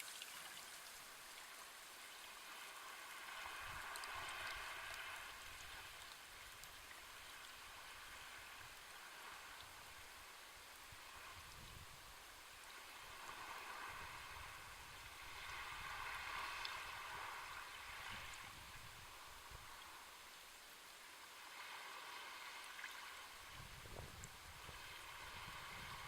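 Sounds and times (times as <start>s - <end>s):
sea waves washing onto shore: 0.0s - 20.2s, 21.3s - 26.0s.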